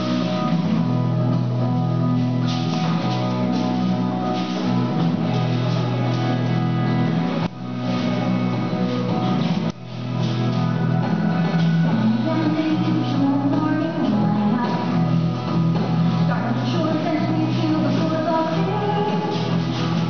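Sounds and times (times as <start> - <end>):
dance music with guitar and drums: 0.0 - 20.0.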